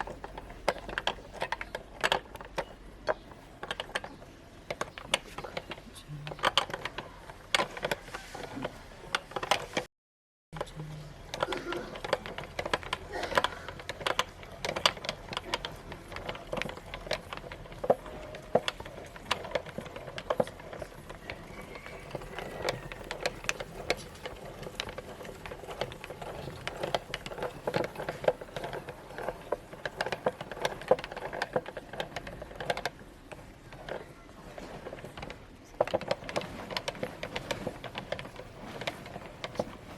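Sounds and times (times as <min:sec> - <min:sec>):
clicks and crackles: 0:00.0 - 0:09.9, 0:10.6 - 0:39.9
meat grinder churning: 0:00.0 - 0:09.9, 0:10.6 - 0:39.9.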